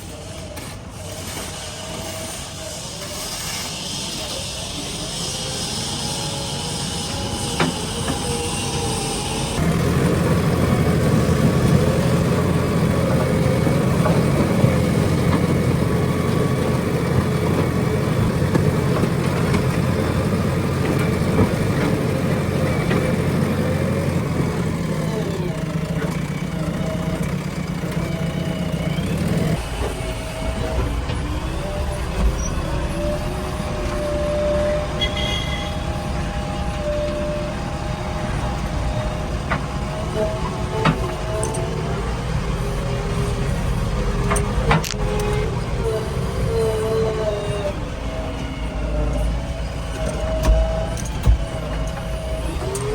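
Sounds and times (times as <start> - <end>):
diesel engine running hard: 0.0 - 52.9.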